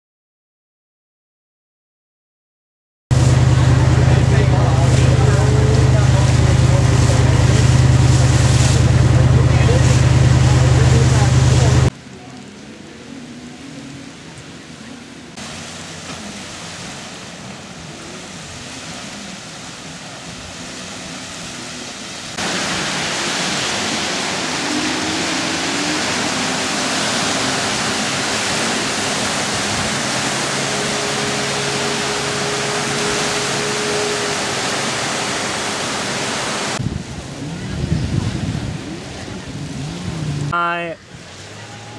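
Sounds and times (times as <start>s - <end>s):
small waves breaking on sand: 3.1s - 12.6s, 14.7s - 41.9s
wind: 3.1s - 41.9s.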